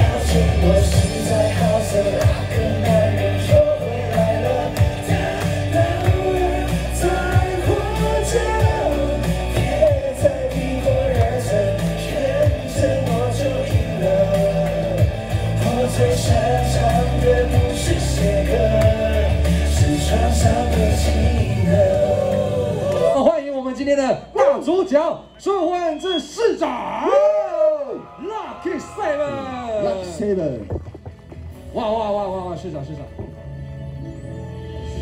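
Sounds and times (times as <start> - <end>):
pop song over sound system: 0.0 - 24.3, 27.0 - 35.0.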